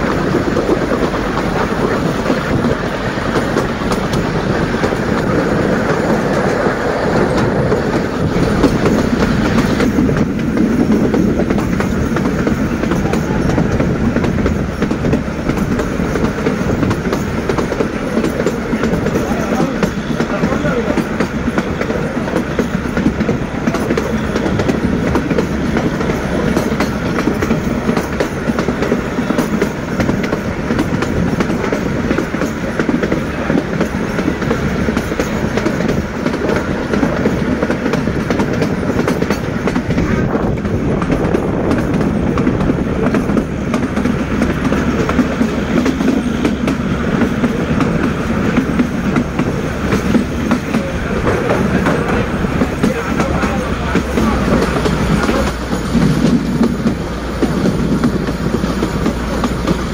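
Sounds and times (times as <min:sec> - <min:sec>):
train carriages rumbling and rattling: 0:00.0 - 0:59.9
wheels clicking over rails: 0:00.0 - 0:59.9.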